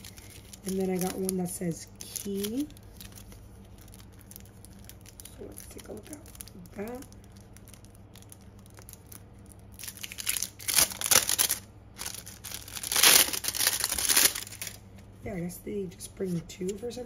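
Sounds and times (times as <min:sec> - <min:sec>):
plastic packaging crinkling: 0:00.0 - 0:15.1.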